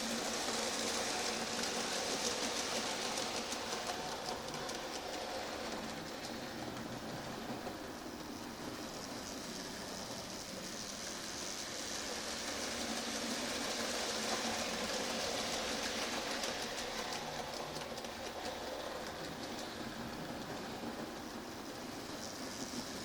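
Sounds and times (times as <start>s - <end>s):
steam train rumbling past: 0.0s - 23.0s
wheels clicking on rails: 0.0s - 23.0s.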